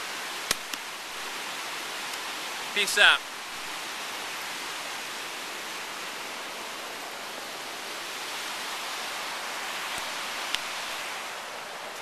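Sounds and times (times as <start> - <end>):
outdoor ambience rushing noise: 0.0 - 12.0.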